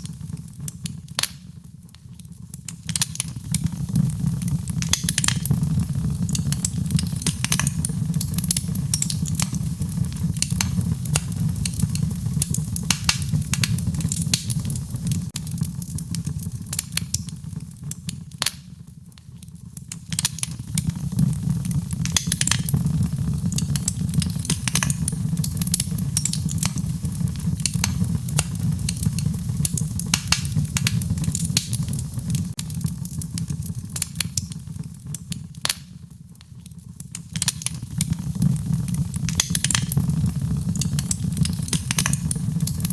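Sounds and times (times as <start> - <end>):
fire crackling and popping: 0.0 - 42.9
low steady fire rumble: 0.0 - 42.9.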